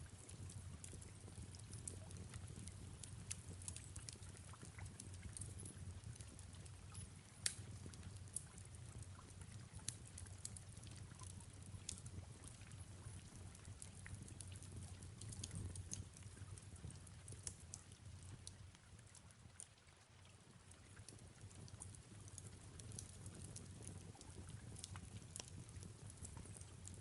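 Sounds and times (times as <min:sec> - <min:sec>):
fireplace crackling: 0:00.0 - 0:19.9, 0:20.5 - 0:27.0
soft rain: 0:00.0 - 0:27.0.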